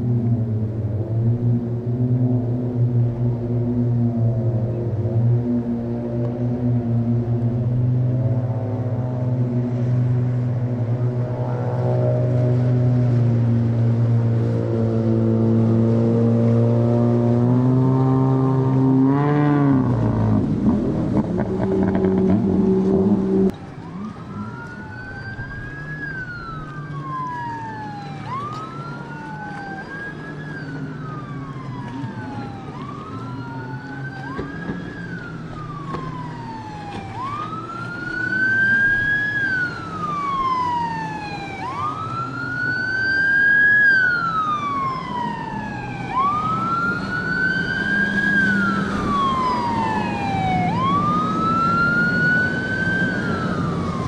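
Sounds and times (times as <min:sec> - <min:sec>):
emergency vehicle siren wailing: 0:00.0 - 0:54.0
low engine rumble: 0:00.0 - 0:54.0.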